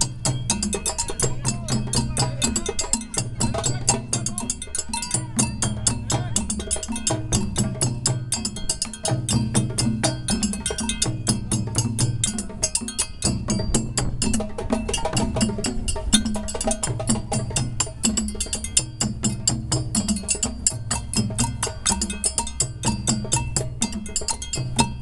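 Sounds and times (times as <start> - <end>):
group of drums playing: 0.0 - 25.0
large barrel drum: 0.0 - 25.0.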